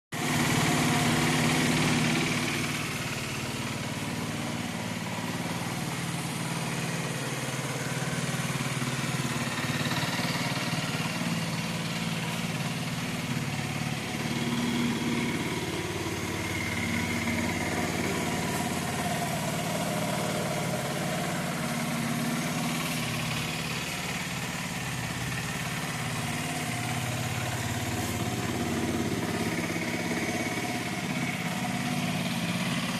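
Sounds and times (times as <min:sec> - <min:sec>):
motorcycle engine idling: 0:00.2 - 0:32.9.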